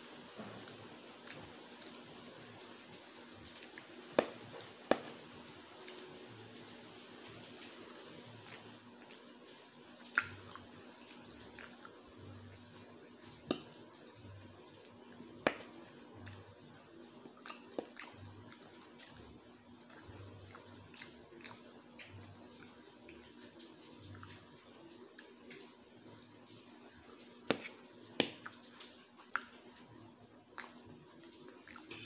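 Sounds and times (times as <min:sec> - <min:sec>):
close chewing of food: 0:00.0 - 0:06.9, 0:07.6 - 0:31.9.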